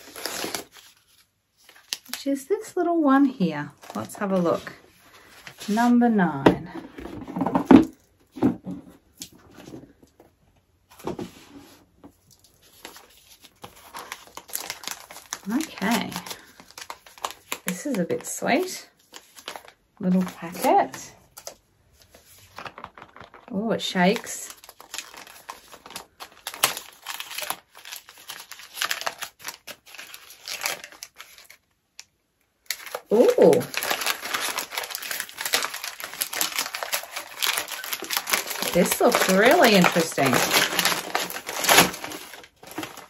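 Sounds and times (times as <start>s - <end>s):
packet rustling: 0.0s - 6.0s, 12.2s - 43.0s.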